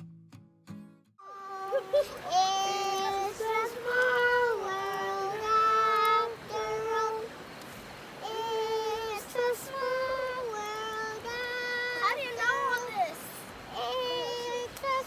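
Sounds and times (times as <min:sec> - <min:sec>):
high singing voice: 0:01.2 - 0:07.4, 0:08.2 - 0:15.0.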